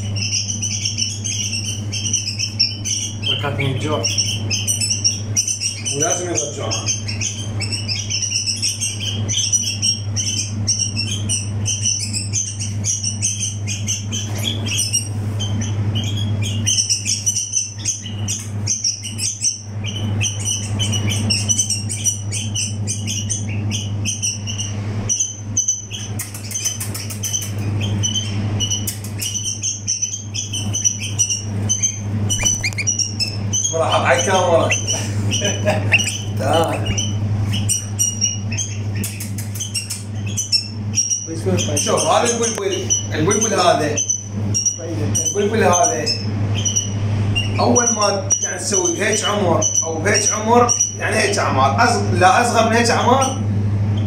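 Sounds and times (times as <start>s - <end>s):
steady low hum: 0.0s - 54.0s
young bird chirping: 0.0s - 54.0s.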